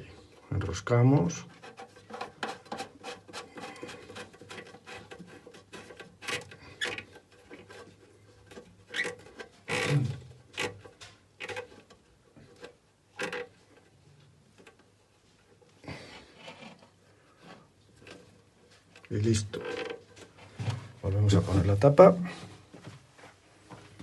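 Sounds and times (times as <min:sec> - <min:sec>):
plastic parts clicking and rubbing: 0:01.0 - 0:20.9.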